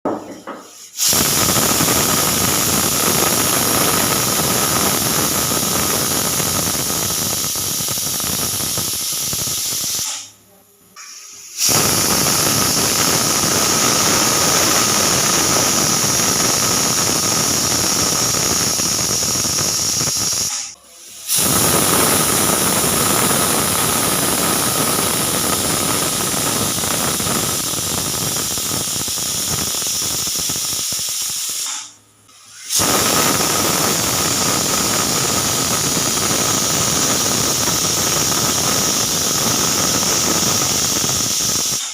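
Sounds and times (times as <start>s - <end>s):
pressure cooker whistle hissing: 0.8s - 10.3s, 11.5s - 20.7s, 21.3s - 41.9s.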